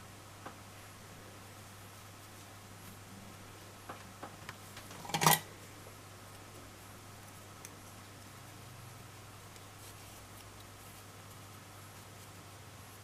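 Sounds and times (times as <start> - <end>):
faint low hum: 0.0 - 13.0
soft hiss: 0.0 - 13.0.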